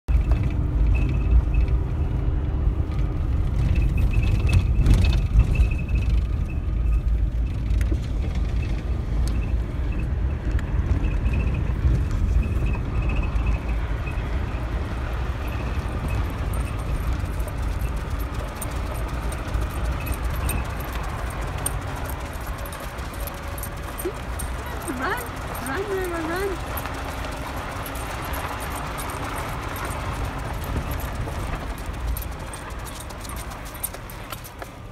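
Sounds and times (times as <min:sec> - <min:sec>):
tyres rumbling on dirt road: 0:00.1 - 0:34.9
knocks and rattles in car: 0:02.9 - 0:09.6, 0:10.4 - 0:34.8.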